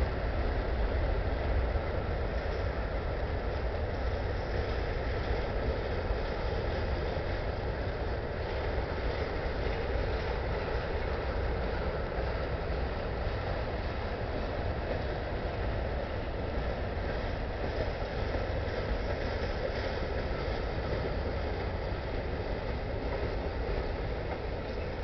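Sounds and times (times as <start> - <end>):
steel wheels rumbling on rail: 0.0 - 25.0.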